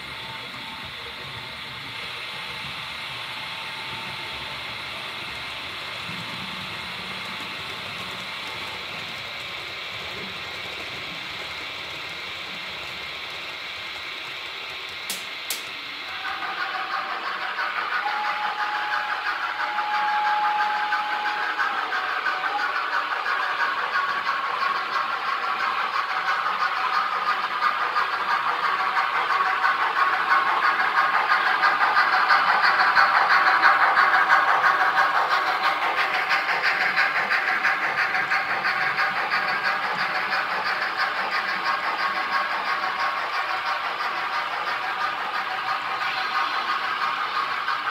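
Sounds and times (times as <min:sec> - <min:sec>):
model train wheels rumbling: 0:00.0 - 0:47.9.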